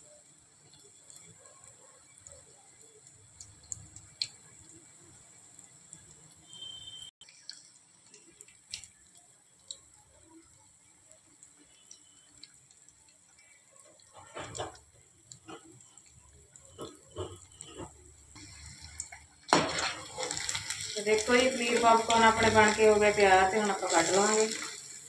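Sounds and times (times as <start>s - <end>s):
food deep-frying in oil: 0.0s - 25.0s
oil popping and crackling: 0.6s - 25.0s.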